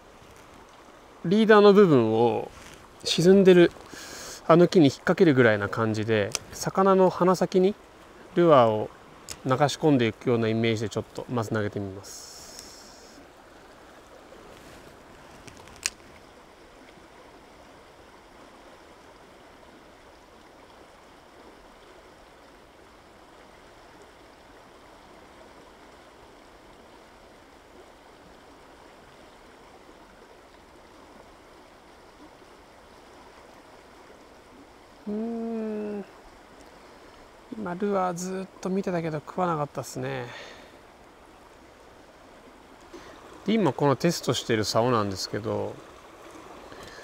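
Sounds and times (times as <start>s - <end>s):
stream rushing: 0.0s - 47.0s.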